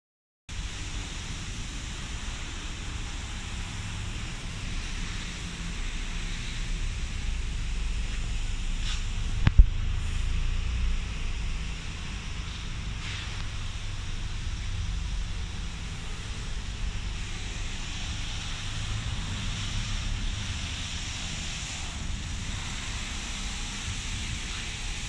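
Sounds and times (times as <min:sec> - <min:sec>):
hiss: 0:00.6 - 0:25.0.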